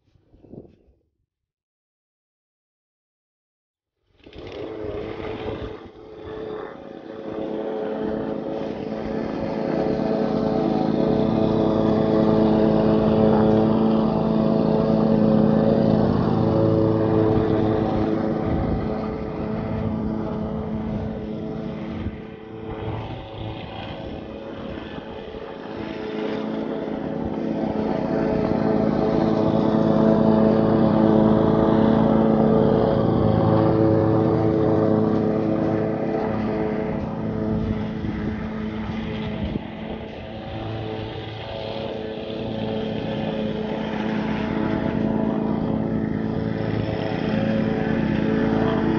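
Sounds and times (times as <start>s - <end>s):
lawn mower running: 4.2s - 48.9s.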